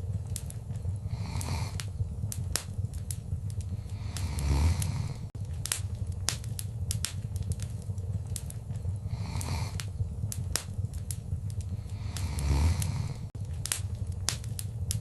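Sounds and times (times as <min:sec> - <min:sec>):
fire hissing: 0:00.0 - 0:15.0
wood fire crackling: 0:00.0 - 0:15.0.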